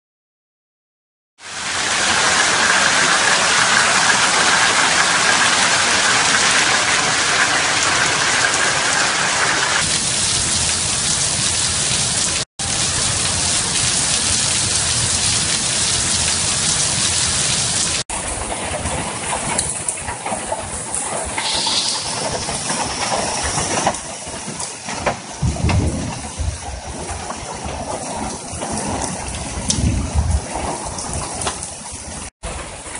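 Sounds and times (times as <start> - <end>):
hail and rain falling hard: 1.4 - 32.9.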